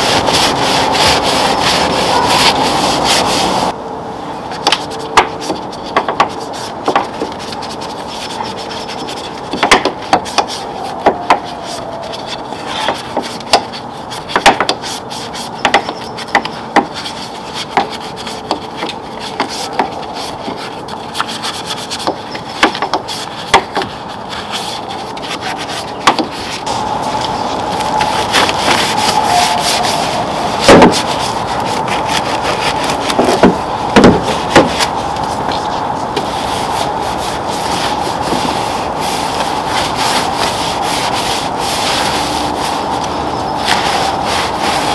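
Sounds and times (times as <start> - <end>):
brush scrubbing metal: 0.0 - 3.8, 4.5 - 44.9.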